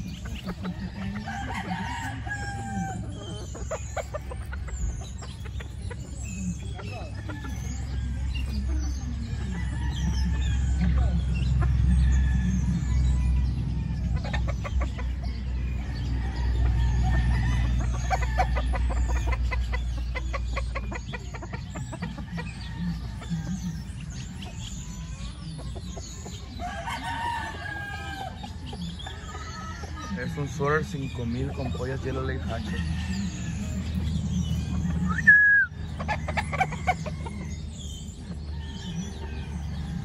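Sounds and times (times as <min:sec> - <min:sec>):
hens clucking: 0:00.0 - 0:40.0.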